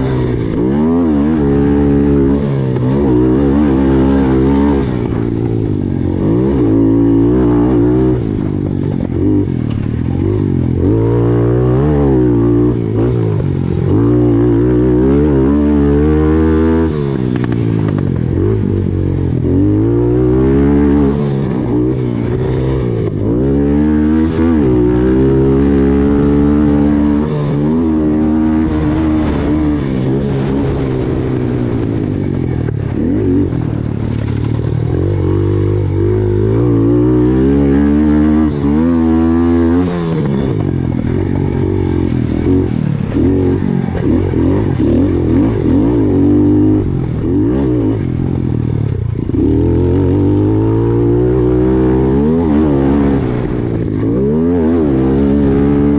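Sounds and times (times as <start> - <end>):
pit bike engines revving: 0.0 - 55.9.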